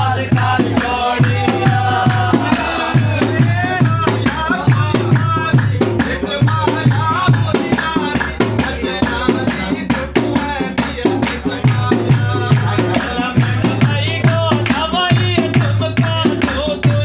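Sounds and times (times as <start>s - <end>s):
person singing folk song: 0.0s - 17.0s
steady drum beat: 0.0s - 17.0s
hands clapping in time: 0.3s - 8.7s, 9.5s - 17.0s.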